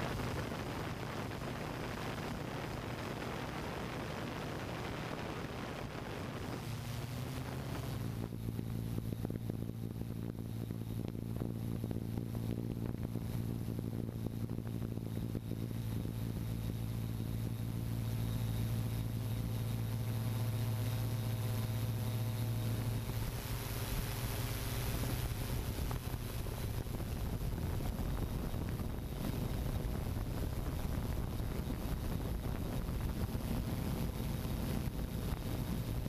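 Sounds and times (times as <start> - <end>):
faint high whine: 0.0 - 36.0
wind on microphone: 0.0 - 36.0
drone motors humming: 2.7 - 36.0.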